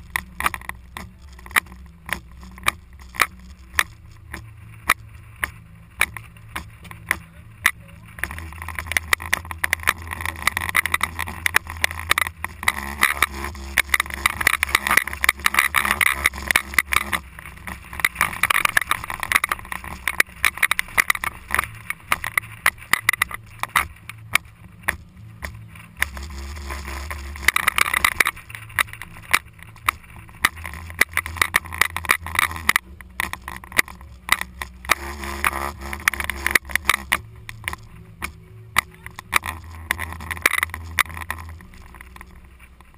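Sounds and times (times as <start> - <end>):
engine and tyre rumble: 0.0 - 42.9.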